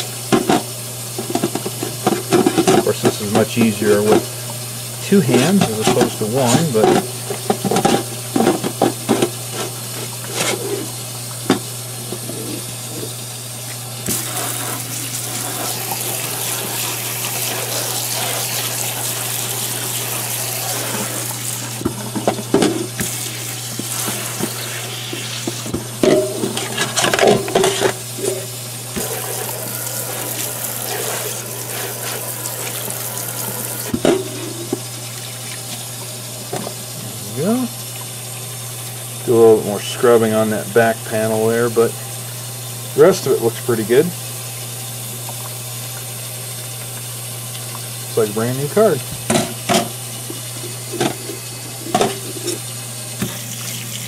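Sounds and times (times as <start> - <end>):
water running into a metal sink: 0.0 - 54.0.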